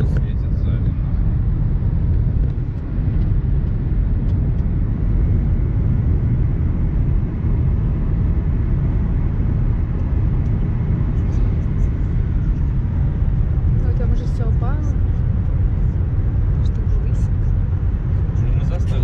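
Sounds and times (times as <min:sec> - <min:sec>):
car driving rumble: 0:00.0 - 0:19.0.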